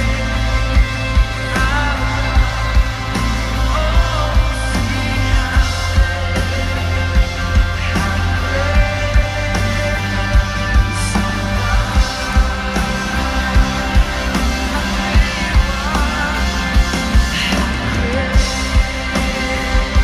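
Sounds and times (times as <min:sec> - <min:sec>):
live rock band playing: 0:00.0 - 0:20.0
person singing lead melody: 0:00.0 - 0:20.0.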